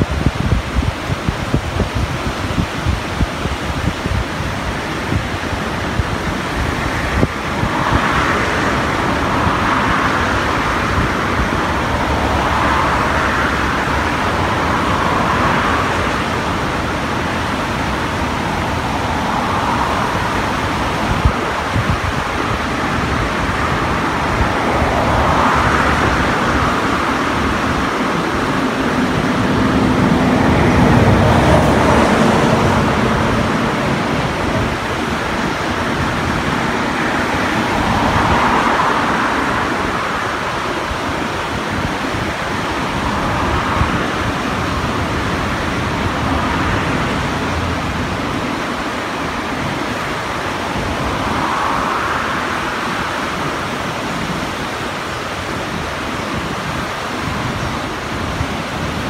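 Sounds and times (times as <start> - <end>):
river rushing: 0.0 - 59.0
wind buffeting microphone: 0.0 - 59.0.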